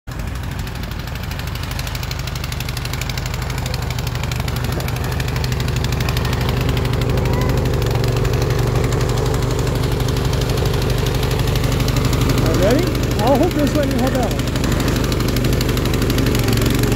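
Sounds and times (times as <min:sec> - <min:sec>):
snowblower engine running: 0:00.1 - 0:16.9.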